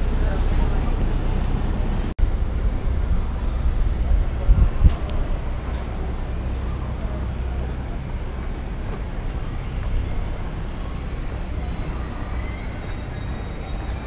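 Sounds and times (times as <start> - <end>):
boat engine low rumble: 0.0 - 14.0.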